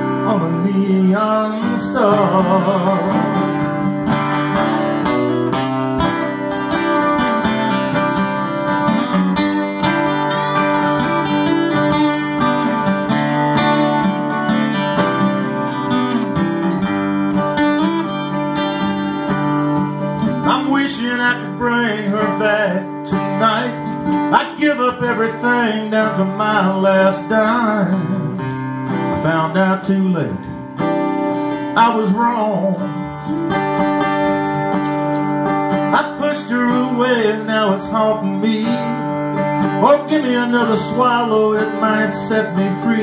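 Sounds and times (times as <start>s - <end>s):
acoustic guitars playing country music: 0.0s - 43.0s.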